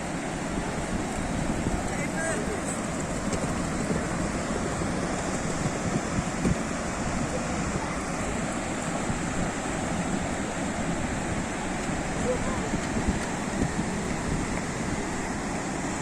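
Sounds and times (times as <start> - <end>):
waves washing: 0.0 - 16.0
wind rumbling on microphone: 0.0 - 16.0.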